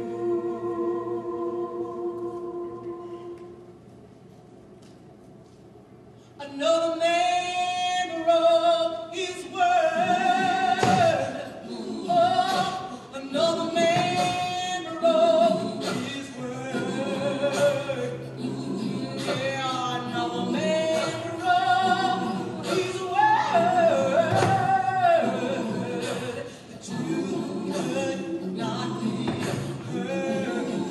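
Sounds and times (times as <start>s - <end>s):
voices singing in harmony: 0.0s - 3.8s, 8.0s - 30.9s.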